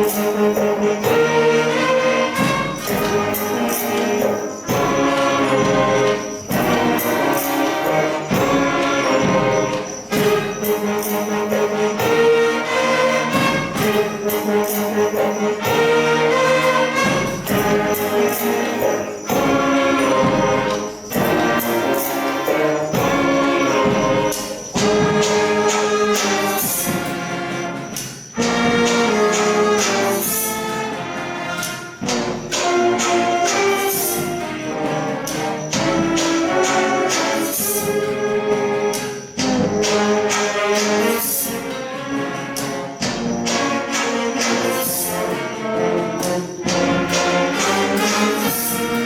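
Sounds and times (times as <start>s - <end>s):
brass melody: 0.0s - 49.0s
sharp percussion hits: 0.0s - 49.0s
wind band playing: 0.0s - 49.0s.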